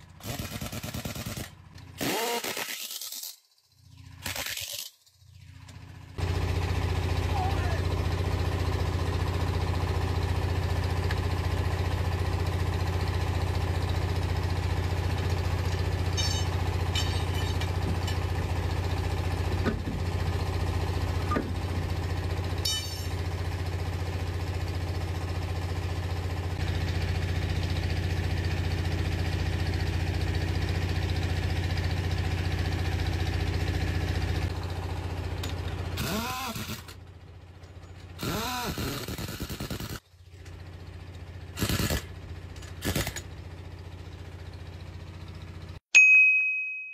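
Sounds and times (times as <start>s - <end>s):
engine hum: 0.0s - 45.8s.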